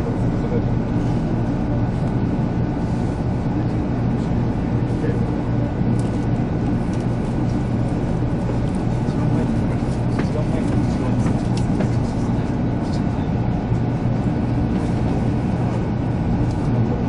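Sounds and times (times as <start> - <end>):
train cabin low rumble: 0.0 - 17.0.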